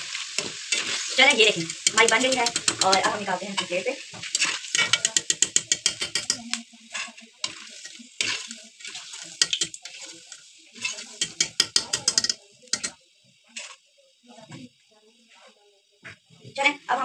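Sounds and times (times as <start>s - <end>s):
skimmer scraping and clicking on pan: 0.0s - 13.8s
potatoes sizzling in oil: 0.0s - 17.0s.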